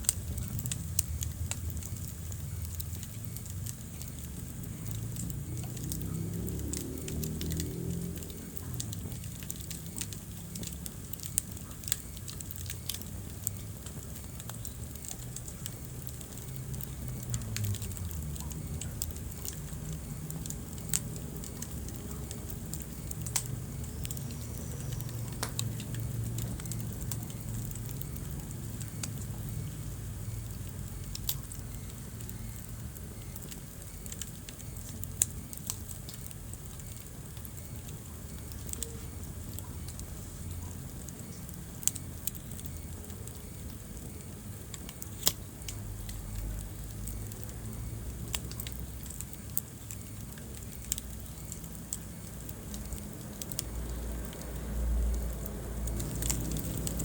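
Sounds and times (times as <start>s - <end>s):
low steady rumble: 0.0s - 57.0s
sharp pops of burning wood: 0.0s - 57.0s
wood fire crackling: 0.0s - 57.0s.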